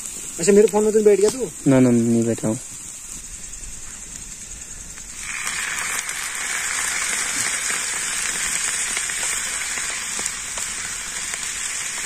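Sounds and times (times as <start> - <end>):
food sizzling in hot oil: 0.0 - 12.0
gas stove hiss: 0.0 - 12.0.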